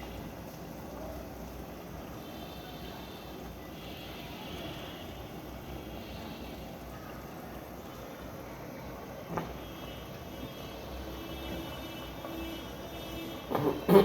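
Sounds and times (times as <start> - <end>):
washing machine hiss: 0.0 - 14.0
washing machine rumble: 0.0 - 14.0.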